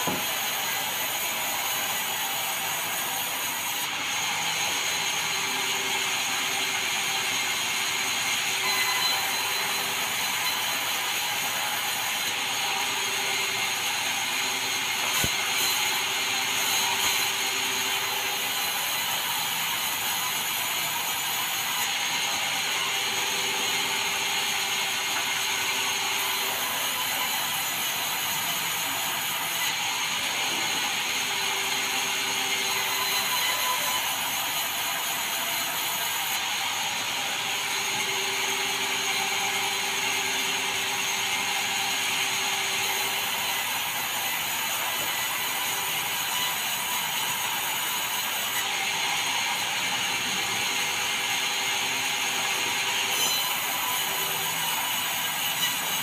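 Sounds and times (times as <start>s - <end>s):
band saw sawing timber: 0.0s - 56.0s.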